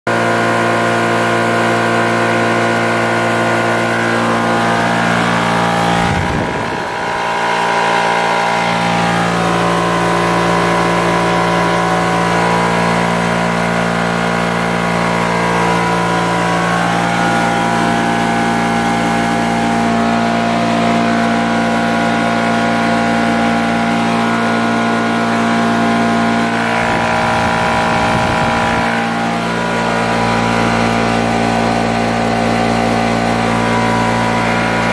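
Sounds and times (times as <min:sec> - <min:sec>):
air compressor humming: 0:00.1 - 0:34.9.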